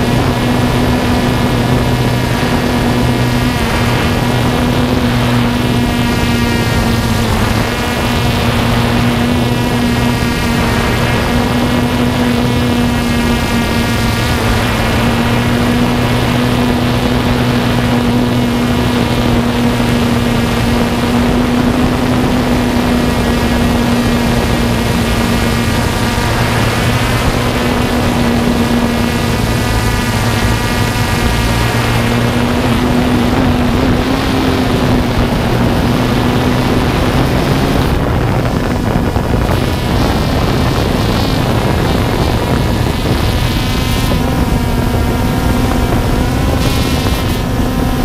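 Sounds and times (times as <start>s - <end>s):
drone motors buzzing: 0.0s - 48.0s.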